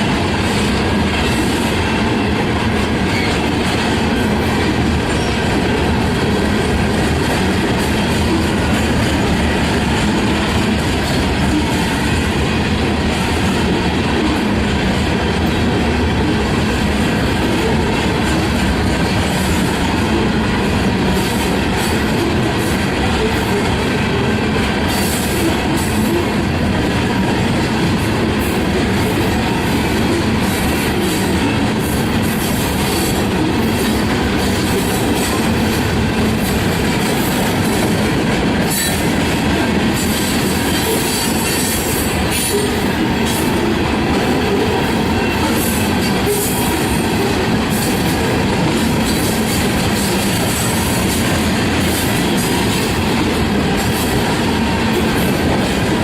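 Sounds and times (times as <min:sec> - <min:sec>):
freight train cars rolling: 0:00.0 - 0:56.0.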